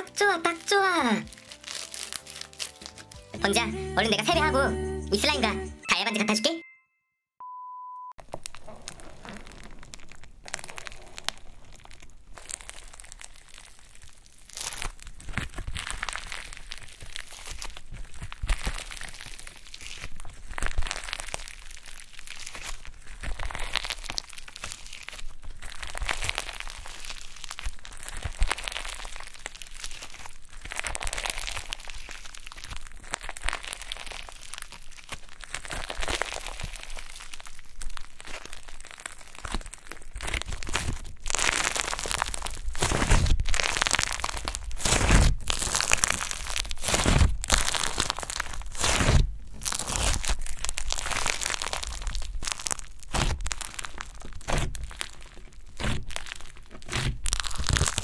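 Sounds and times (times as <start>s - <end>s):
slime squishing: 0.0s - 3.6s, 8.2s - 58.0s
foam beads crackling: 0.0s - 4.6s, 8.2s - 58.0s.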